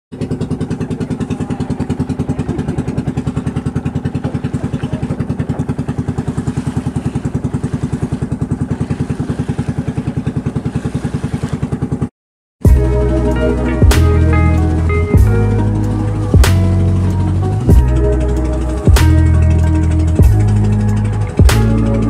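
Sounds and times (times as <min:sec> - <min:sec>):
boat engine pulsing: 0:00.1 - 0:22.0.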